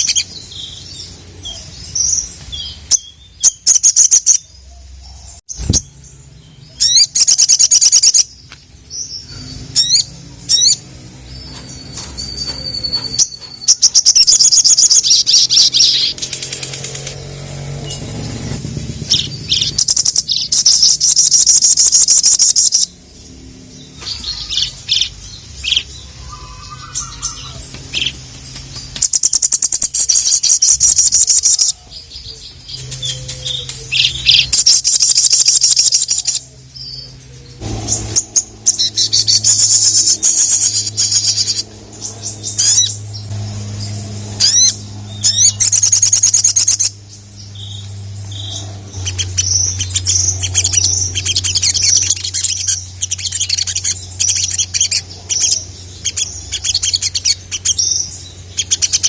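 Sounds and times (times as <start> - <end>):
bird singing high rattling trills: 0.0 - 59.0
steady low hum: 4.4 - 59.0.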